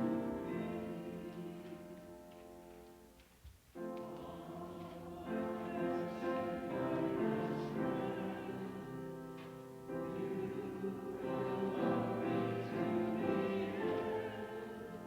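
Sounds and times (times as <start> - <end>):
choir singing held chords: 0.0 - 2.7, 3.8 - 15.0.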